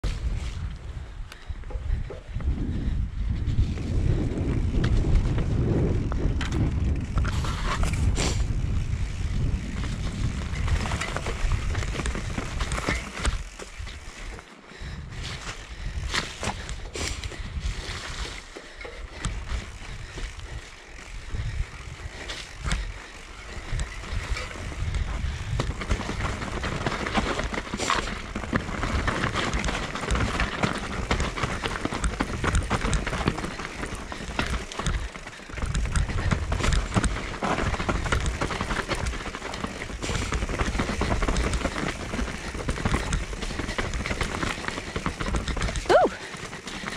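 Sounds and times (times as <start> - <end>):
wind on microphone: 0.0 - 14.1, 19.2 - 46.3
bike knocking and rattling: 0.0 - 46.9
bike tyres rolling over dirt and stones: 0.0 - 46.9.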